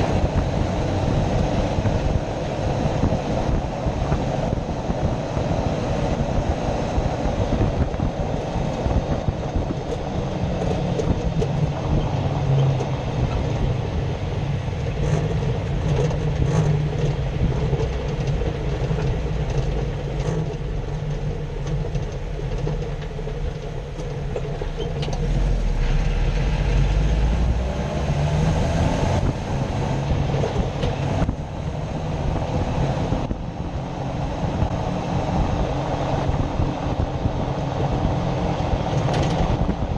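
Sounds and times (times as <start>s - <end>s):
tyre and drivetrain rumble: 0.0s - 39.9s.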